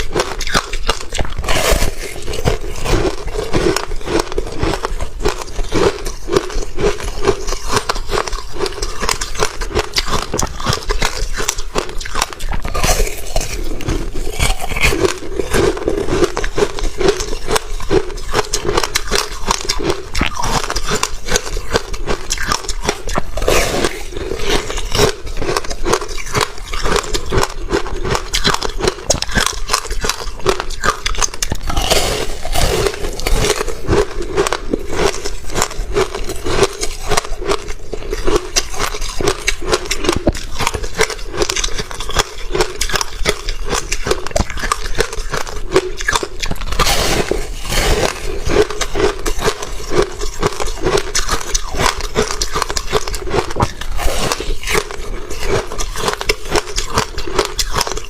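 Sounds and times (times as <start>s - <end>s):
crunching frozen fruit: 0.0s - 58.0s.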